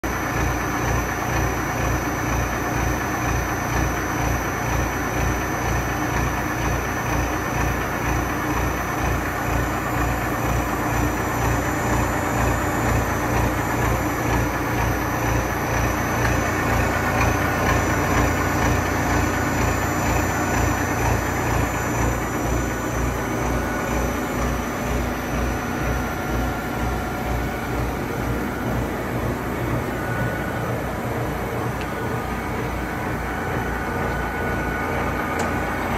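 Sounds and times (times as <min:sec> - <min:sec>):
machine running with low throb: 0:00.1 - 0:35.9.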